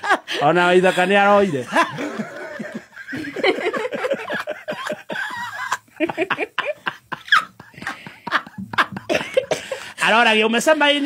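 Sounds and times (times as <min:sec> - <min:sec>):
man laughing hard: 0:00.0 - 0:10.0.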